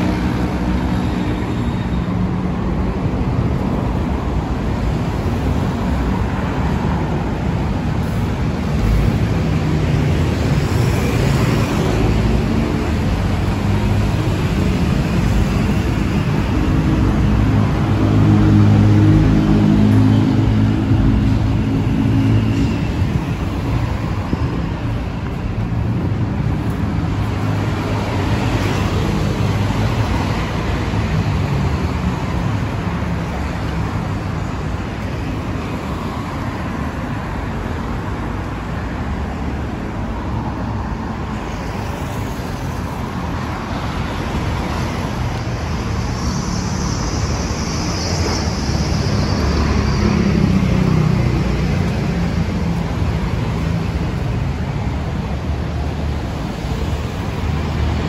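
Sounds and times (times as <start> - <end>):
city road traffic roar: 0.0 - 58.0.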